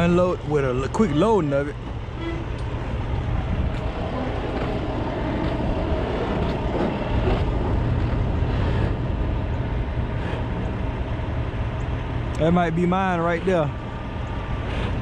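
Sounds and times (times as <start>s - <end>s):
road noise: 0.0s - 15.0s
truck diesel engine rumbling: 0.0s - 15.0s.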